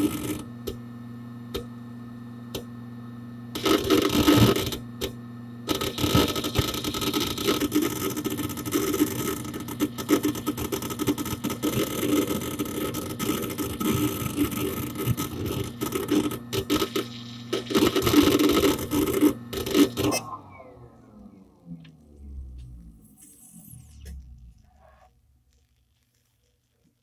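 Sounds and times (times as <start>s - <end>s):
hard disk seek clicking: 0.0s - 0.8s, 3.6s - 25.0s
computer hum: 0.0s - 27.0s.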